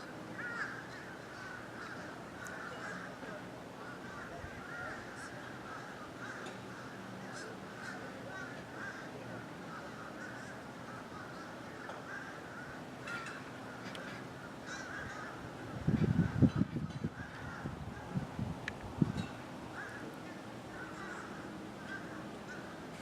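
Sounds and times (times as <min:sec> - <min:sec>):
flock of birds chattering: 0:00.0 - 0:23.0.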